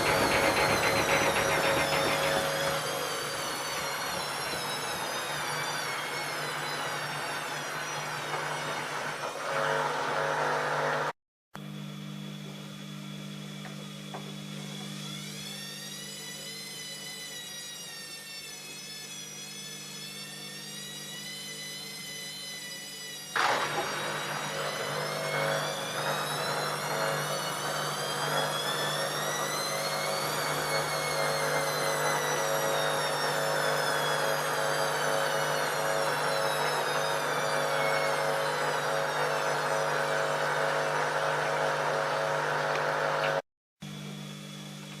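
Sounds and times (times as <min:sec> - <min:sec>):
washing machine motor whine: 0:00.0 - 0:45.0.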